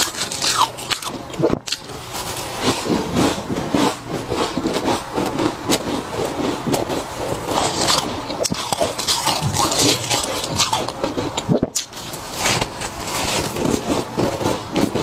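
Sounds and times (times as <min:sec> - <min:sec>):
chewing frost crunches: 0:00.0 - 0:15.0.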